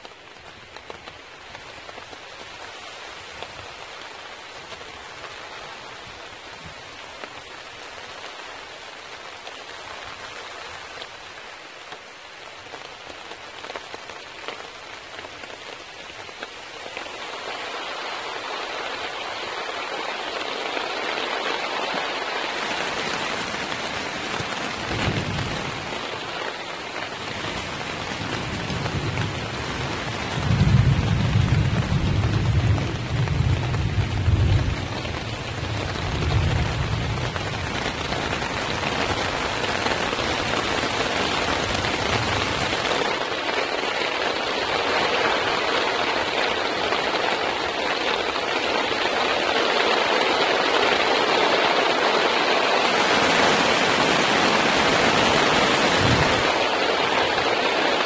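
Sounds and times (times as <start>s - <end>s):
rain on a tarp: 0.0s - 58.0s.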